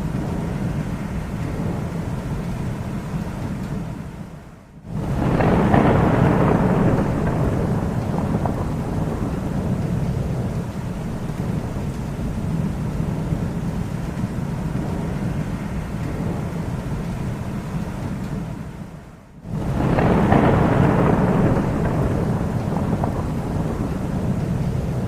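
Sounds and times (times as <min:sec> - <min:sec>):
thunder rumbling: 0:00.0 - 0:25.0.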